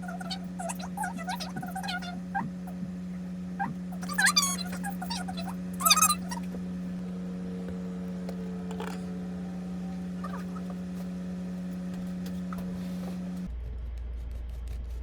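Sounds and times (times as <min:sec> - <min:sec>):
faint clicks and taps: 0:00.0 - 0:13.5
low electrical hum: 0:00.0 - 0:13.5.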